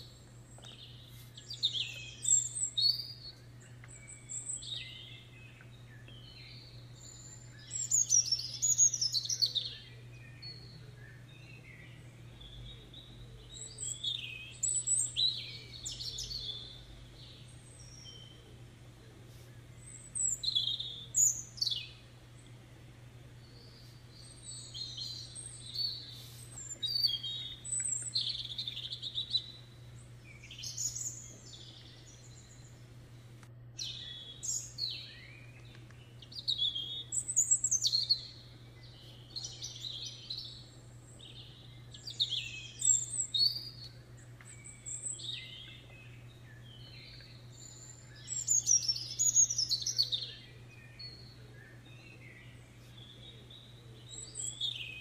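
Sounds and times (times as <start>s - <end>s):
birds chirping and warbling: 0.0s - 55.0s
steady low hum: 0.0s - 55.0s.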